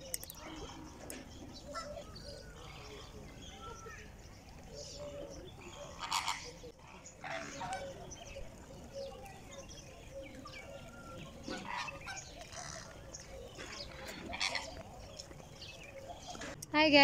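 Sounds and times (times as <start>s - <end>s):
bird calls: 0.0s - 17.0s
faint distant voices: 0.0s - 17.0s.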